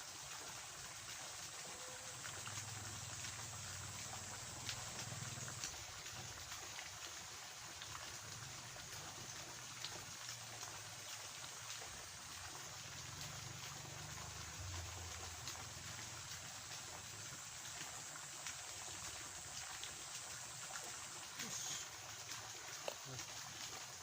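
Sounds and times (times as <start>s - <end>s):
water trickling in a ditch: 0.0s - 24.0s.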